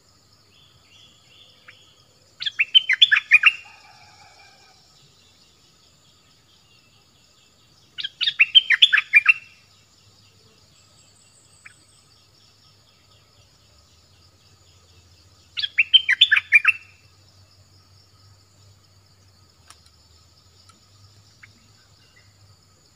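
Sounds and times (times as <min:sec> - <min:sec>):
faint insect hum: 0:00.0 - 0:22.9.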